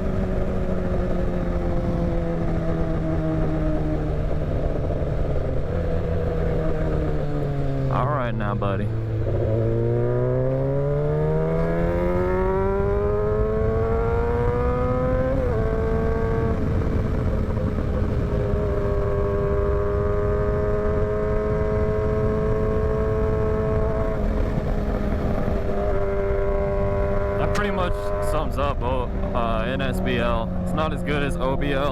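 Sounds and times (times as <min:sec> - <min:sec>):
wind rushing on microphone: 0:00.0 - 0:07.9, 0:11.3 - 0:31.9
motorcycle engine accelerating: 0:00.0 - 0:31.9.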